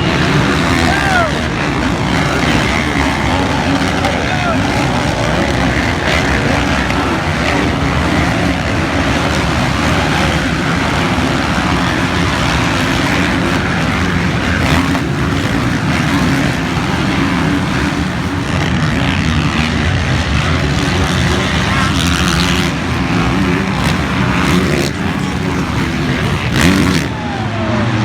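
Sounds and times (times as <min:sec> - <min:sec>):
motorcycle engines droning: 0:00.0 - 0:28.0.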